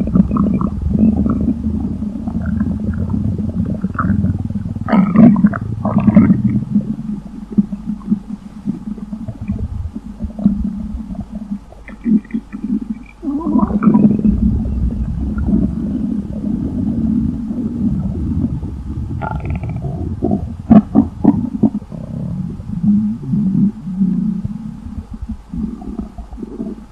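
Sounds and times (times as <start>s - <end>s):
stomach rumbling and gurgling: 0.0s - 26.9s.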